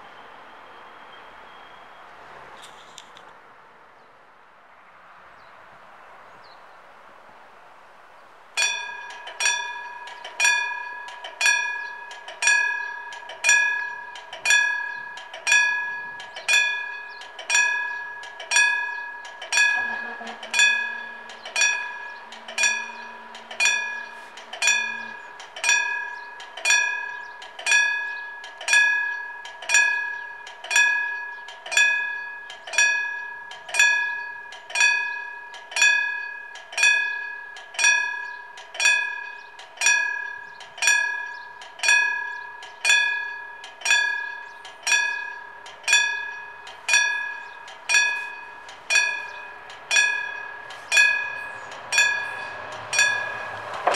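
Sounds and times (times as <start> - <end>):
level crossing warning bell: 8.6 - 53.9.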